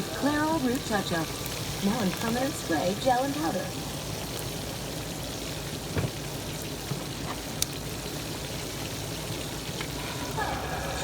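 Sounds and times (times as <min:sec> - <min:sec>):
fish sizzling in hot grease: 0:00.0 - 0:11.0.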